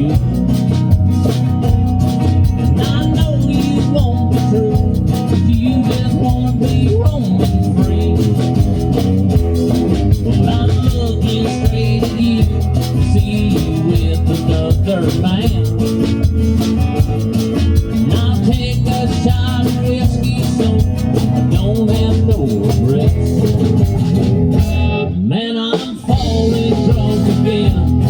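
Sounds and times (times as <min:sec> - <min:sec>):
live country band playing: 0:00.0 - 0:28.0.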